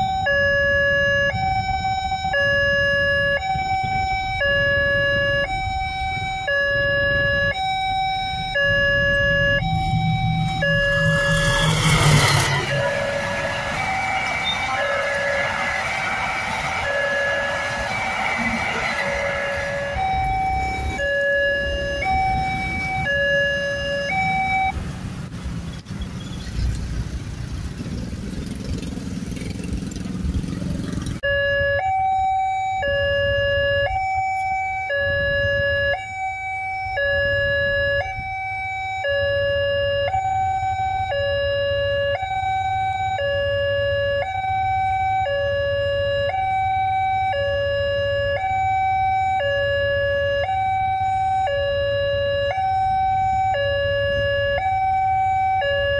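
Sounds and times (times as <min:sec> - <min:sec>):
level crossing two-tone alarm: 0:00.0 - 0:24.7, 0:31.2 - 0:55.9
rumbling road traffic: 0:00.0 - 0:55.9.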